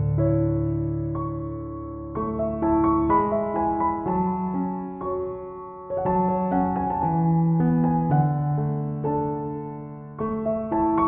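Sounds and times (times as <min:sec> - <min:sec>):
soft electric piano chords: 0:00.0 - 0:11.0.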